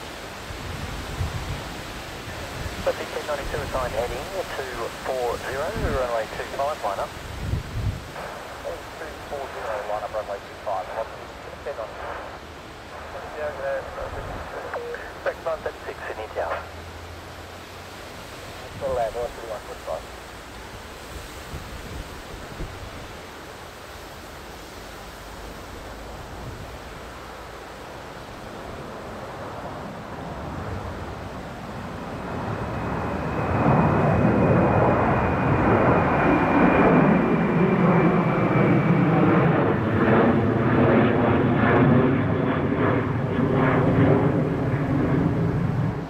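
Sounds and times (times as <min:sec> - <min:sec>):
jet airliner engine rush and whine: 0:00.0 - 0:46.0.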